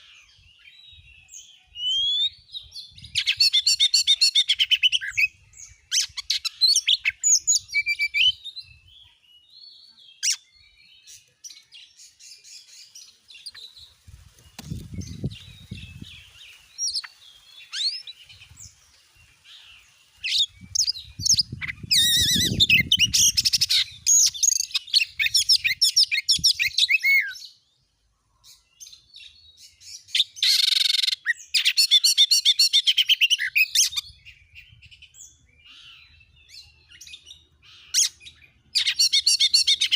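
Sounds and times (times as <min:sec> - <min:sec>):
bird singing whistles and chatter: 0:00.0 - 0:08.8, 0:09.4 - 0:18.8, 0:20.2 - 0:27.6, 0:29.6 - 0:39.9.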